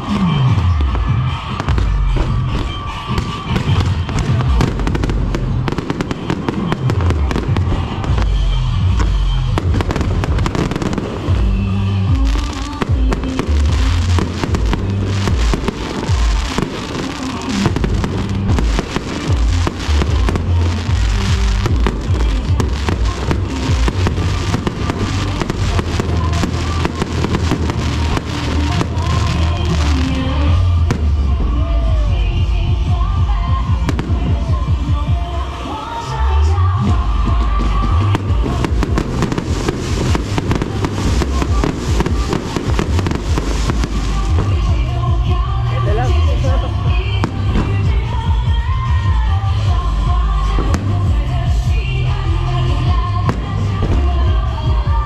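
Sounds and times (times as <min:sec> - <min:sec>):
fireworks bursting: 0:00.0 - 0:55.0
loud music: 0:00.0 - 0:55.0.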